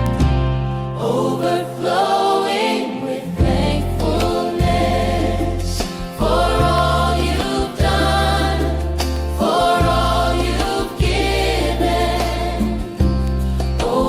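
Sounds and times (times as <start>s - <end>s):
steady bass: 0.0s - 1.0s, 3.4s - 14.0s
worship song with choir voices: 0.7s - 14.0s.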